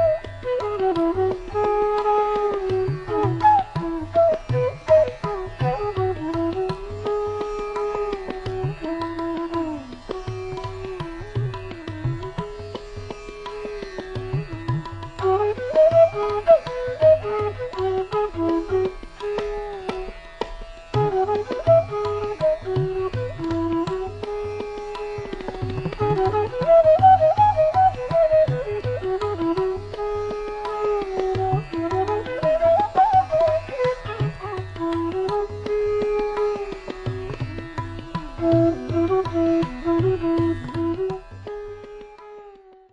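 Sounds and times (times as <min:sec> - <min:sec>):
flute melody: 0:00.0 - 0:12.3, 0:14.4 - 0:20.0, 0:20.9 - 0:42.8
tabla rhythm: 0:00.0 - 0:42.9.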